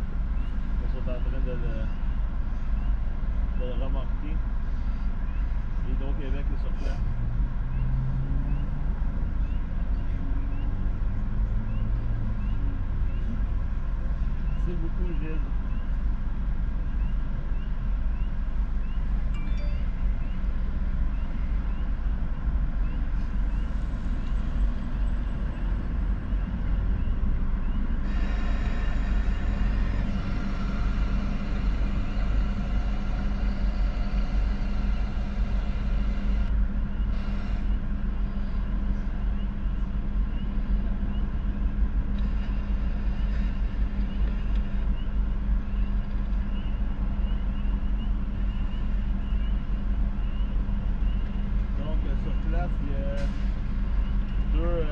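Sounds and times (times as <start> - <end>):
droning hum: 0.0 - 54.9
idling vehicle engines: 0.0 - 54.9.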